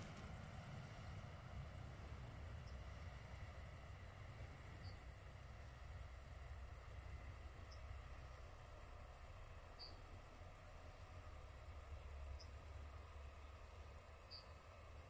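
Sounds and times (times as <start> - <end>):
crickets trilling: 0.0 - 14.9.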